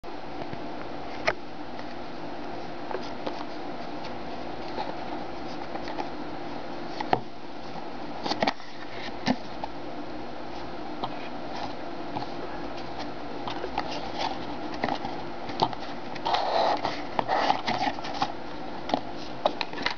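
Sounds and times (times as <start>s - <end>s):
background hum: 0.0s - 19.9s.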